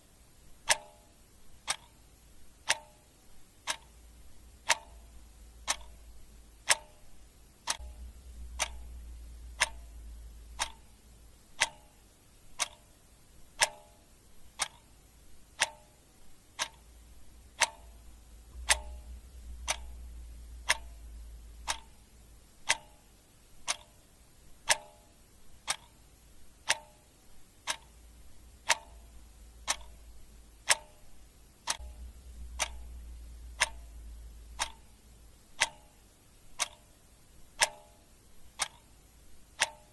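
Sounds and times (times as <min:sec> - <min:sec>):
clock ticking: 0:00.4 - 0:39.9.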